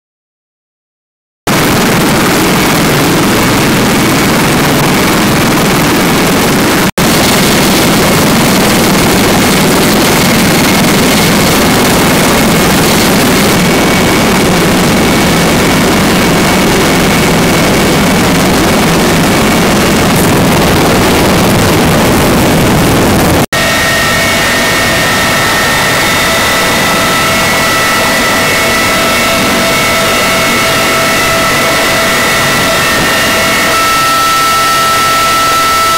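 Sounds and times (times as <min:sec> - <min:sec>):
helicopter turbine and rotor noise: 0:01.5 - 0:35.9
high turbine whine: 0:01.5 - 0:35.9.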